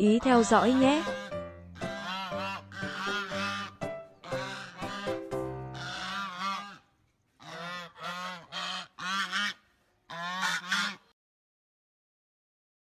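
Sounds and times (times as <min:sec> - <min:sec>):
goose honking: 0:00.0 - 0:11.1.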